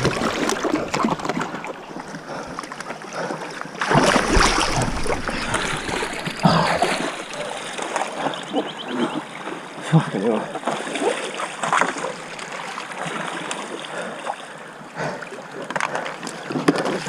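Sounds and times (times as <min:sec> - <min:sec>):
river water splashing: 0:00.0 - 0:17.0.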